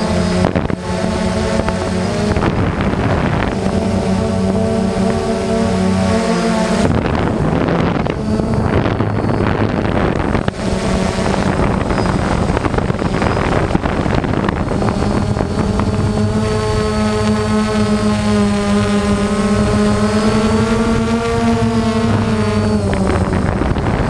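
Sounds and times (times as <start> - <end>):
drone motors whining: 0.0 - 24.0
wind buffeting microphone: 0.0 - 24.0.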